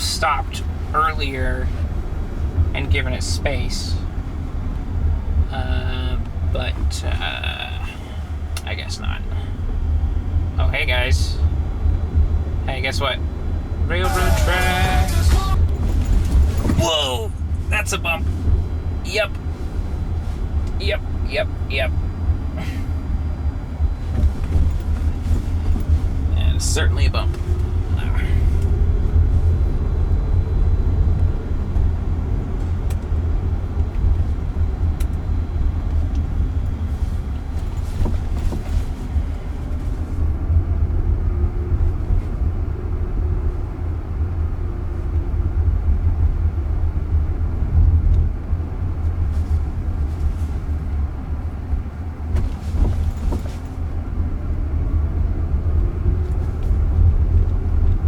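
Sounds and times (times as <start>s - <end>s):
tyres rumbling on pavement: 0.0s - 42.6s, 45.6s - 58.0s.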